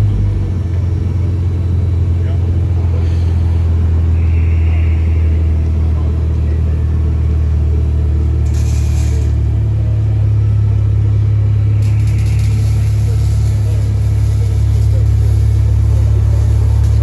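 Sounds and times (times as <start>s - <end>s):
car exhaust idling deep rumble: 0.0s - 17.0s.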